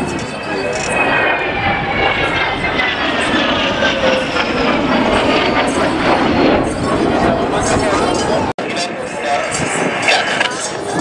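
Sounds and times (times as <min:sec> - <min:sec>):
jet engine passing overhead: 0:00.0 - 0:11.0.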